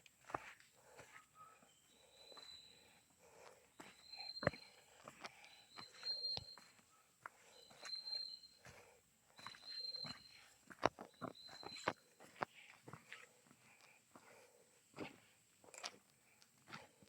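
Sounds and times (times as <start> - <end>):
footsteps crunching on trail: 0.0 - 17.0.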